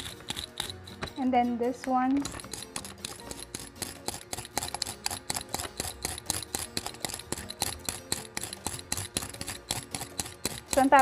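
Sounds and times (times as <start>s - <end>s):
peeler scraping chocolate: 0.0s - 1.3s, 2.1s - 11.0s.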